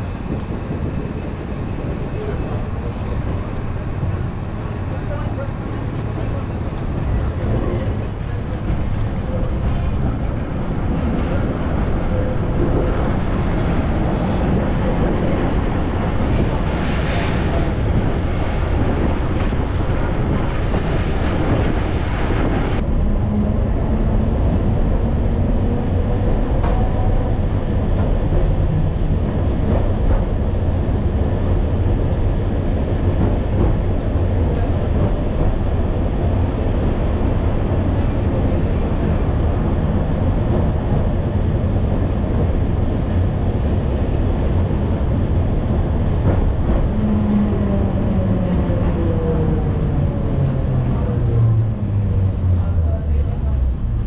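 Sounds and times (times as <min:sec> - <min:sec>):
rushing rolling noise: 0:00.0 - 0:54.0
tram rumbling on rails: 0:00.0 - 0:54.0.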